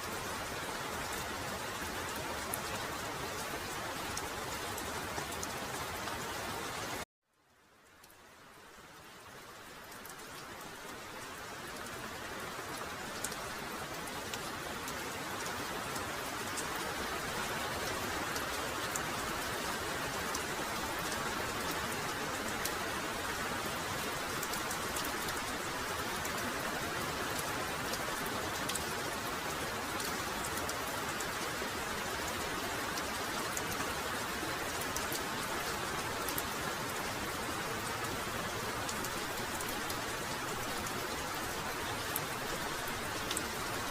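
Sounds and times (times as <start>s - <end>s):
heavy rain falling: 0.0s - 7.0s, 7.7s - 43.9s.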